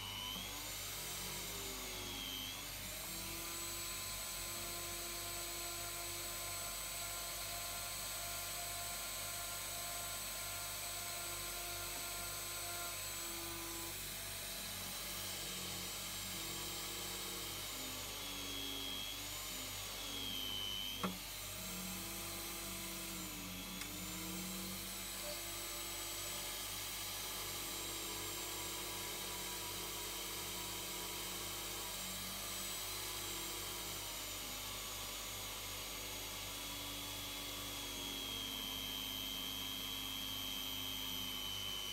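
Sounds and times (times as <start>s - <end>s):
drill press motor whine: 0.0s - 41.9s.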